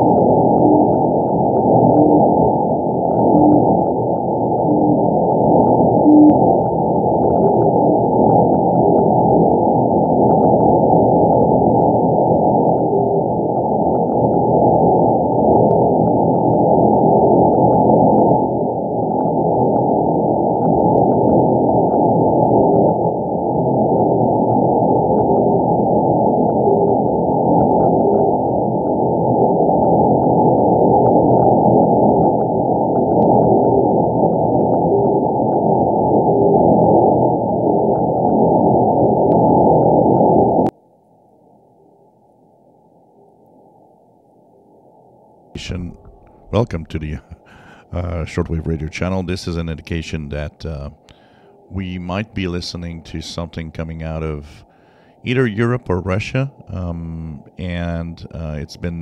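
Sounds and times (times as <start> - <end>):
radio hiss and static crackle: 0.0 - 40.8, 43.2 - 59.0.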